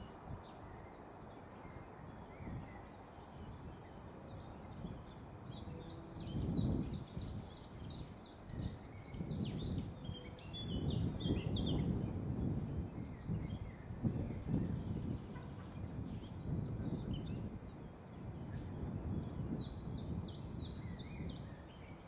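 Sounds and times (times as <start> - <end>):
songbird chirping: 0.0 - 22.0
wind rumble on microphone: 0.0 - 22.0.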